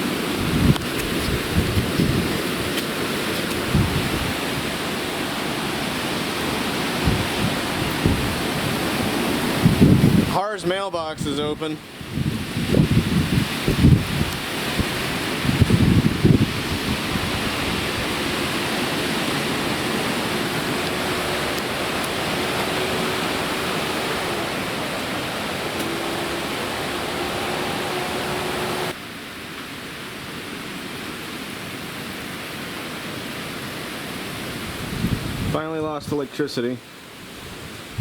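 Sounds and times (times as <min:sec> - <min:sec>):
wind and rain rushing: 0:00.0 - 0:36.2, 0:36.8 - 0:38.0.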